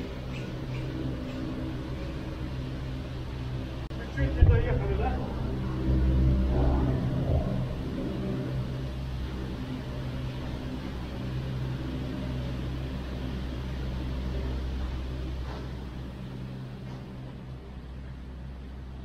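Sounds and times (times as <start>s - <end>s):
cable car machinery hum: 0.0s - 19.0s.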